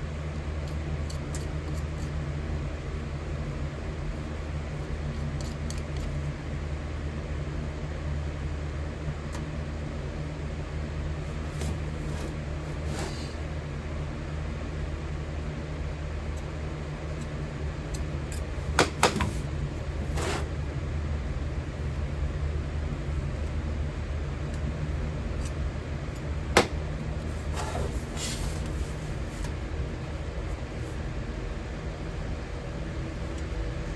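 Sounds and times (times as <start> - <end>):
electric furnace humming: 0.0 - 33.9.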